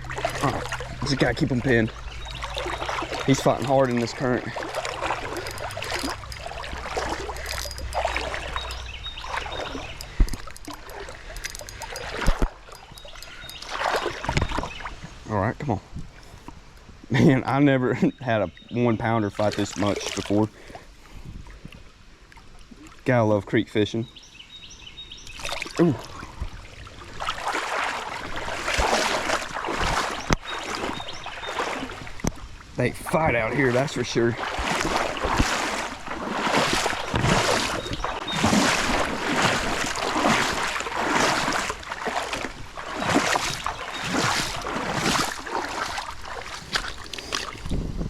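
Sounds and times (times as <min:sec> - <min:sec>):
creek water running and splashing: 0:00.0 - 0:15.5, 0:18.8 - 0:23.9, 0:24.9 - 0:48.0.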